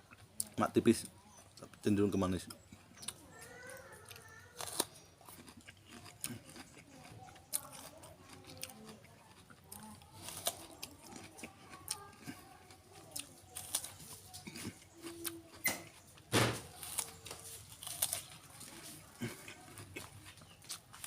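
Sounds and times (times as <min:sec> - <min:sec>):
person chewing crisp apple: 0:00.0 - 0:21.0.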